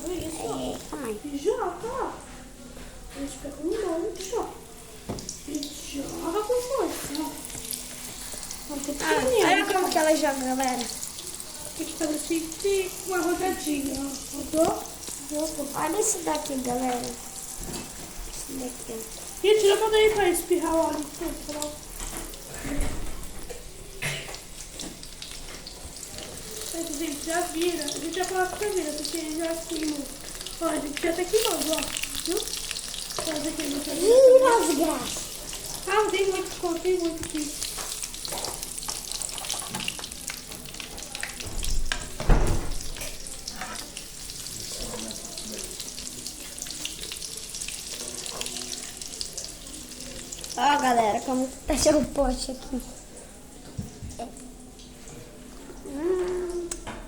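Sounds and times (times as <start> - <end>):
dough frying in hot oil: 3.1 - 57.0.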